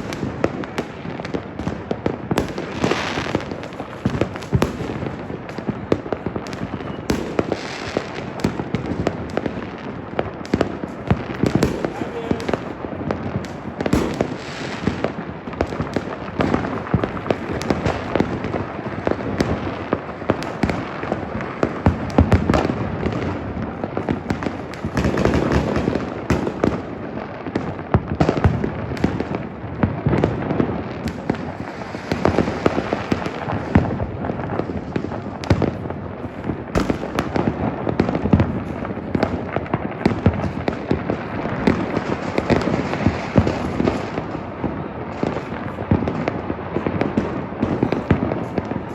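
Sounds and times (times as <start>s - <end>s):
fireworks crackling: 0.0s - 48.9s.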